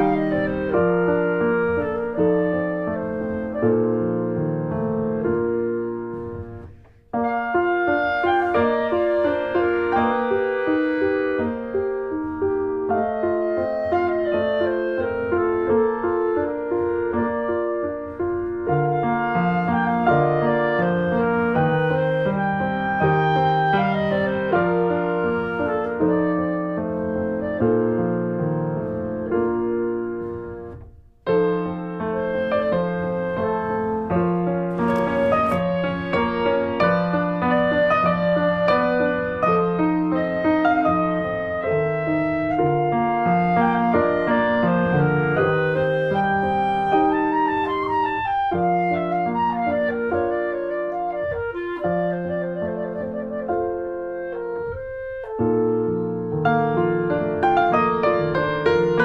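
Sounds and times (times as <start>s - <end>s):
slow piano chords: 0.0s - 59.0s
wind instrument melody: 0.0s - 59.0s.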